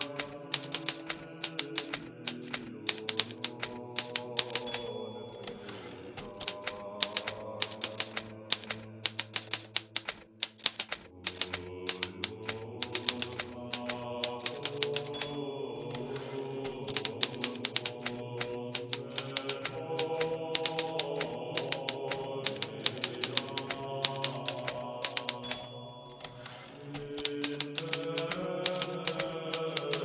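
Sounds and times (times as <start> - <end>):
typewriter margin bell ring: 0.0 - 18.1, 18.8 - 30.0
typewriter key strikes: 0.0 - 30.0.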